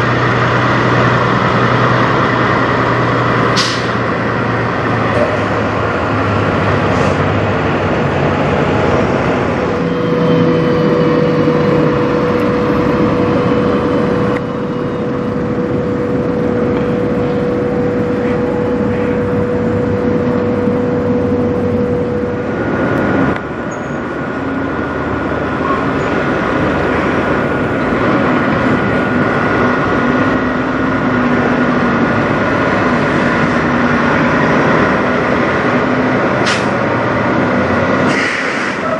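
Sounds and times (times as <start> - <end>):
steady high whine: 0.0 - 38.8
truck diesel engines running: 0.0 - 38.9.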